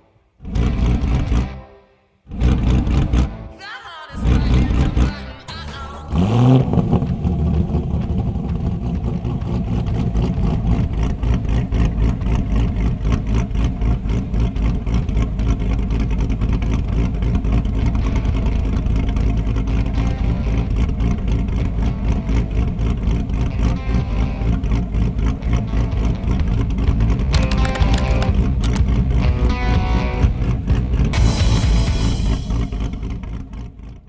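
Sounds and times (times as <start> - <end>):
car engine revving and idling: 0.2 - 3.5, 4.2 - 34.0.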